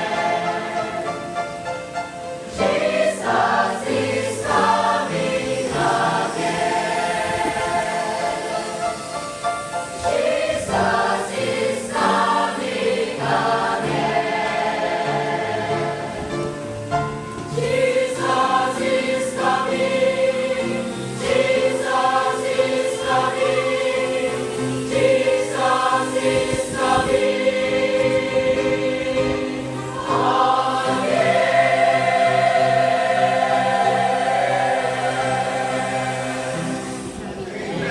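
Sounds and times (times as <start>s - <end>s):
choir singing a hymn: 0.0s - 37.9s.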